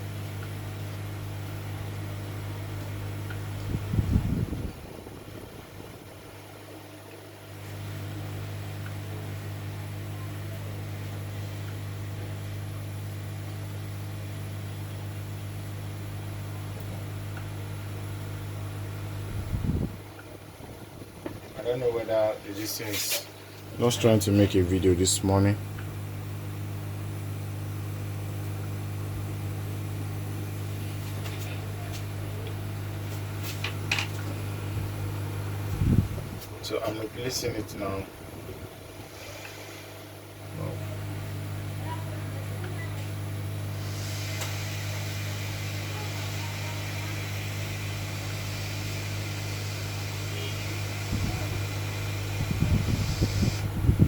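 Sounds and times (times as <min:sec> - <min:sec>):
hot air blower humming: 0:00.0 - 0:54.0.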